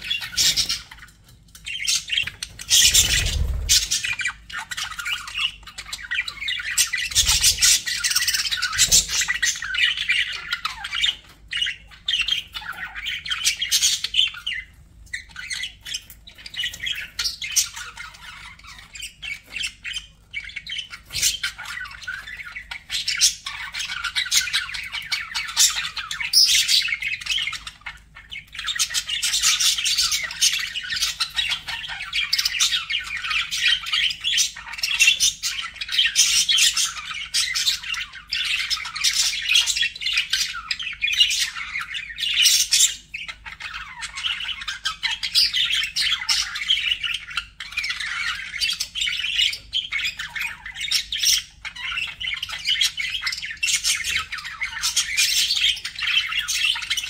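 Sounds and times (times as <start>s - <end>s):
bird squawks: 0.0s - 1.1s, 1.8s - 57.0s
budgerigars chattering and warbling: 0.0s - 57.0s.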